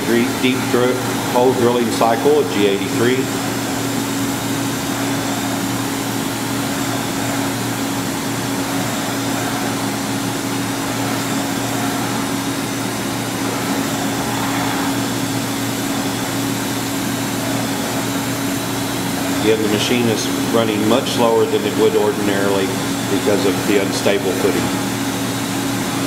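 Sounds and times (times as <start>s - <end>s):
machine hum with steady tone: 0.0s - 26.0s.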